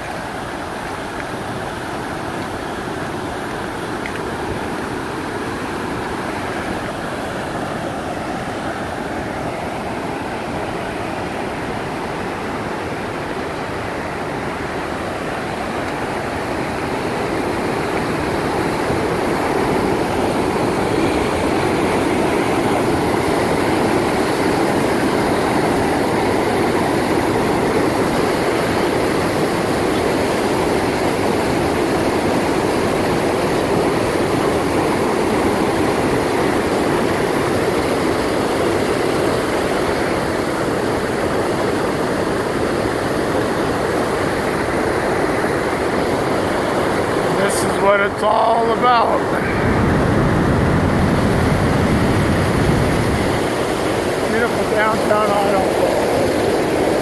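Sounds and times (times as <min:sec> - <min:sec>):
whitewater pouring over weir: 0:00.0 - 0:57.0.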